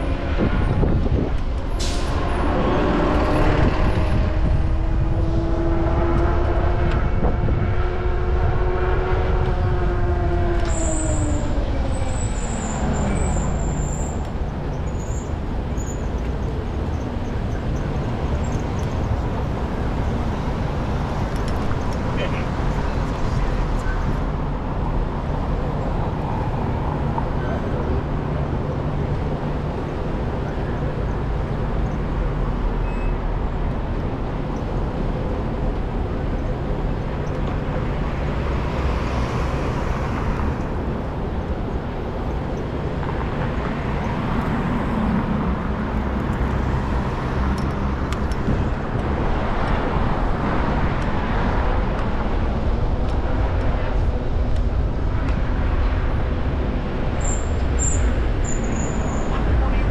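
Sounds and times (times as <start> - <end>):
cars passing: 0.0 - 59.9
street traffic: 0.0 - 59.9
wind rumble on microphone: 0.0 - 59.9.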